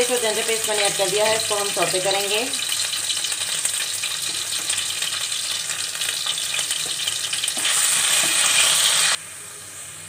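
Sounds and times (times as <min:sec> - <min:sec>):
paste sizzling in hot oil: 0:00.0 - 0:09.2.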